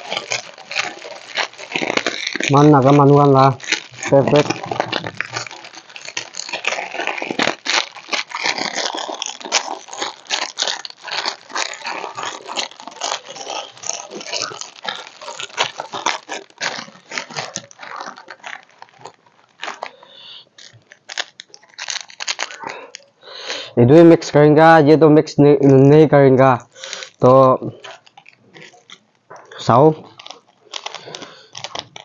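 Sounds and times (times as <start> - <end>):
plastic wrapper crinkling: 0.0 - 32.0.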